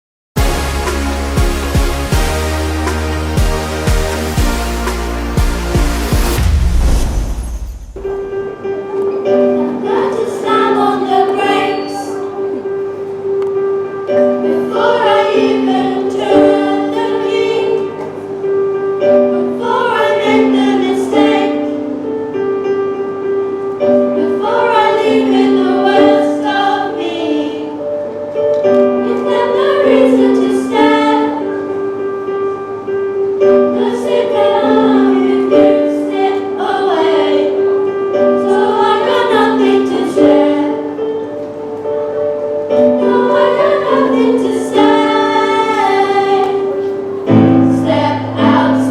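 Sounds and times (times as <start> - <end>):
held instrumental chords: 0.4 - 48.9
children's choir singing: 7.6 - 48.9.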